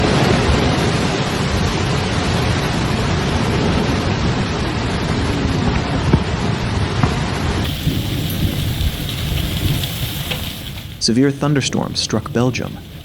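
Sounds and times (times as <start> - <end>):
deep thunder rumble: 0.0 - 13.0
heavy rain: 0.0 - 13.0
wind: 0.0 - 13.0.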